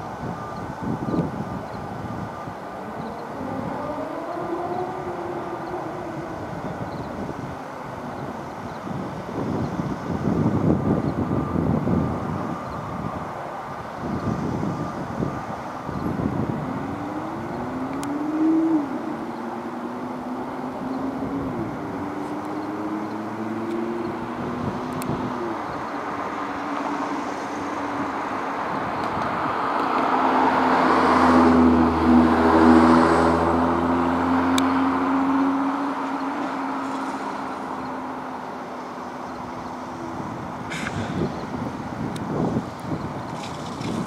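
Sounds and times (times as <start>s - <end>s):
vehicle engines with road noise: 0.0s - 44.0s
vehicle passing close: 2.0s - 44.0s.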